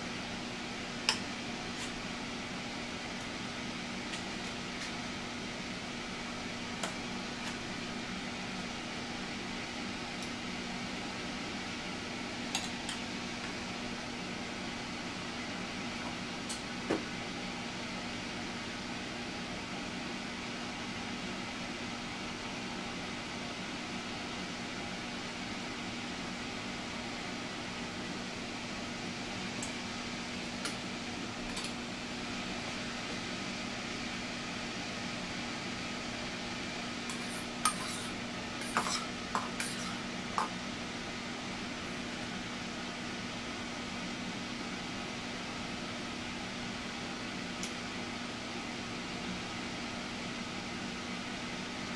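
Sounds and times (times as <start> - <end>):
fan-like mechanical hum: 0.0 - 51.9.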